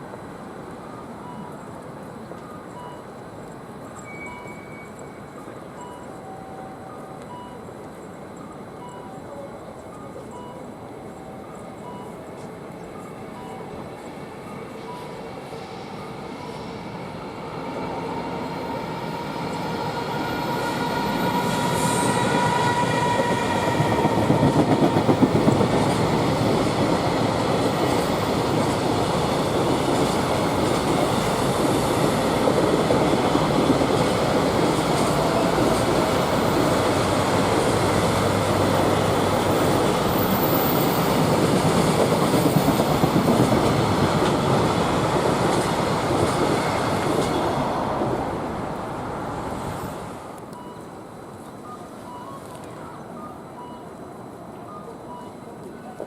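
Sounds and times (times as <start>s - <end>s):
freight train passing on rails: 0.0s - 56.0s.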